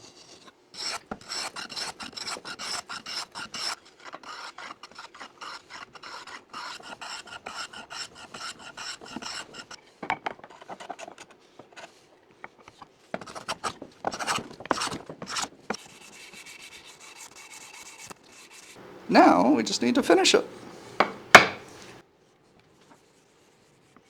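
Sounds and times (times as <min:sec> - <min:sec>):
hand tool stroking wood: 0:00.0 - 0:22.0.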